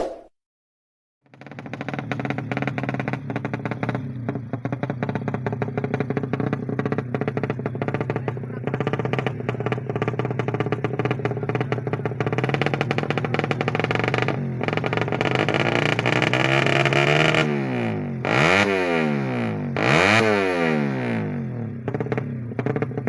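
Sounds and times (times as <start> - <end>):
motorcycle engine idling and revving: 1.2 - 23.0.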